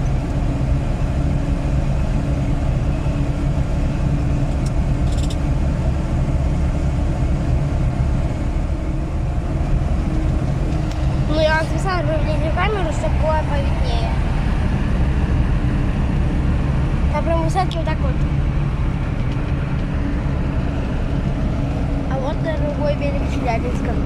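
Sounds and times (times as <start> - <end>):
car interior road drone: 0.0 - 24.0.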